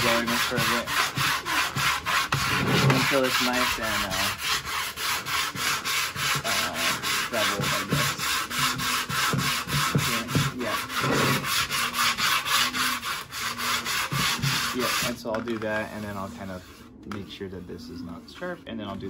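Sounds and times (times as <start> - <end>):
sandpaper scratching wood: 0.0 - 18.6.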